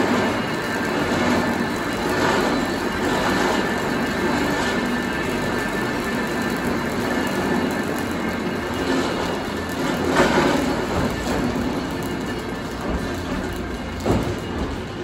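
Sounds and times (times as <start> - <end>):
cable car running noise: 0.0 - 15.0.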